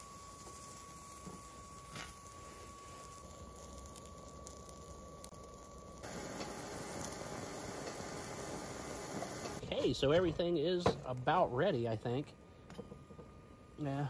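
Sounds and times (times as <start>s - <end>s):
camp stove burning hiss: 0.0s - 14.0s
fan whine: 0.0s - 14.0s.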